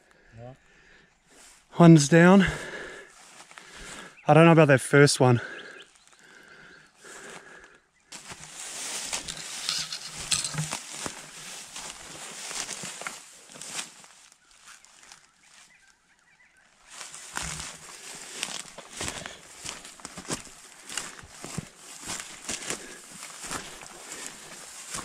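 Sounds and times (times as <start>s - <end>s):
footsteps through dry grass: 1.2s - 1.7s, 2.4s - 4.2s, 5.9s - 25.0s.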